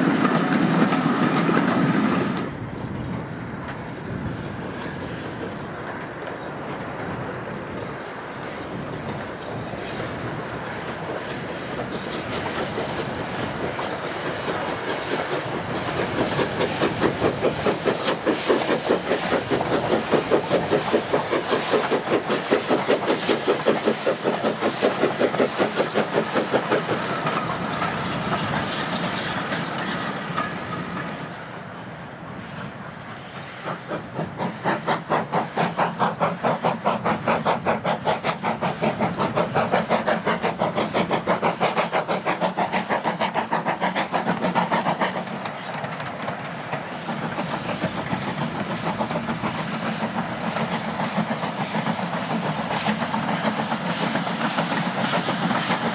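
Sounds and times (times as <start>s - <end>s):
steam locomotive exhaust beats: 0.0s - 55.9s.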